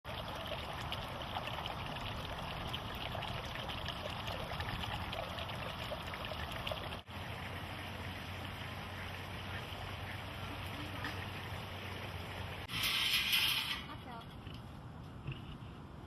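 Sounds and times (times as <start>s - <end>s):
trickling water: 0.0s - 14.0s.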